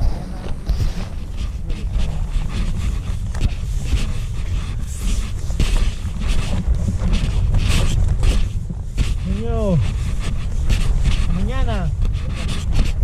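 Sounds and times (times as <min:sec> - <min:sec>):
storm wind gusting on microphone: 0:00.0 - 0:13.0.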